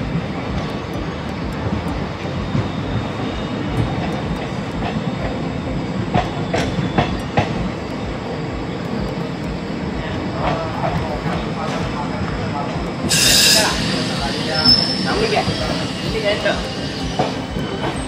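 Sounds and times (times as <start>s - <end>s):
train coach rumbling: 0.0s - 18.0s.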